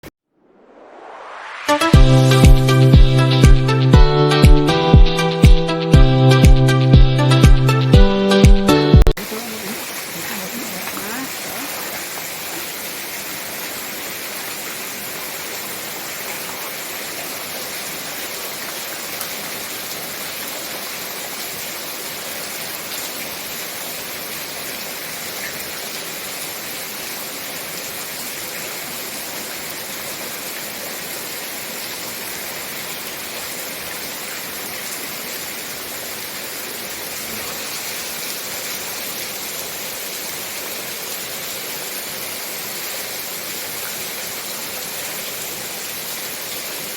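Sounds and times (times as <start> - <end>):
heavy rain falling: 9.2 - 46.9.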